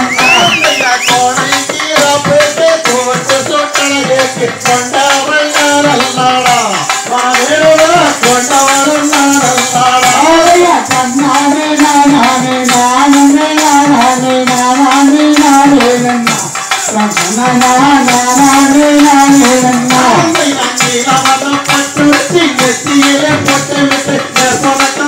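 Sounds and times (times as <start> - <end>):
folk singing with sliding notes: 0.0 - 25.0
rattling percussion beat: 0.0 - 25.0.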